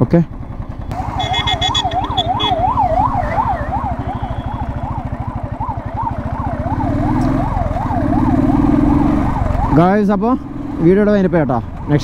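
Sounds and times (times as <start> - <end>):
motorcycle engine running: 0.0 - 11.9
siren sweeping up and down: 0.8 - 10.5.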